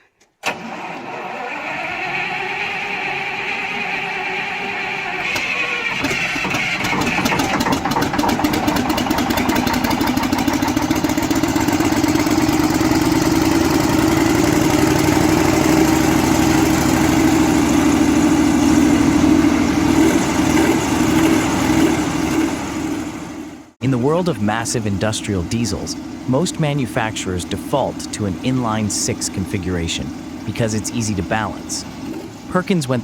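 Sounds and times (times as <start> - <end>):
diesel engine drone: 0.5 - 33.0.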